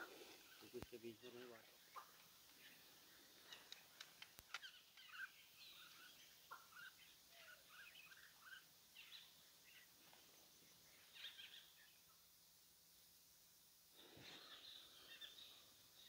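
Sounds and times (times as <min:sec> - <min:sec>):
small birds chirping: 0:00.0 - 0:13.2, 0:14.0 - 0:16.0.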